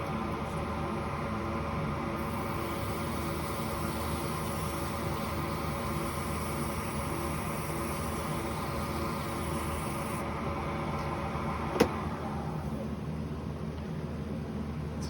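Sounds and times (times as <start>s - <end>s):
lathe motor humming: 0.0s - 12.7s.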